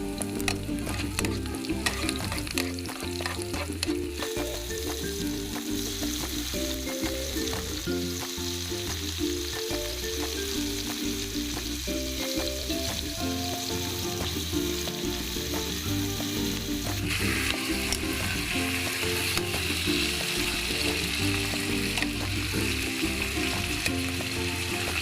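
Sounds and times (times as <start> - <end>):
background music with simple melody: 0.0 - 25.0
chicken sizzling in a pan: 0.0 - 25.0.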